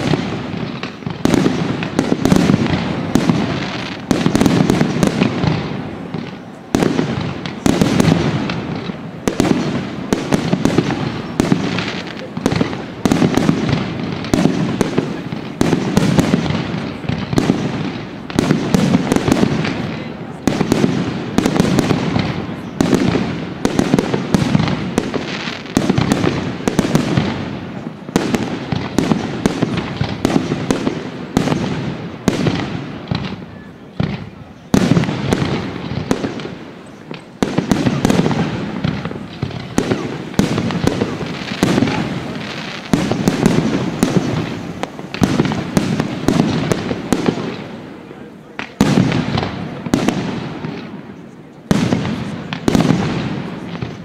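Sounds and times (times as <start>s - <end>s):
fireworks bursting with echo: 0.0s - 54.0s.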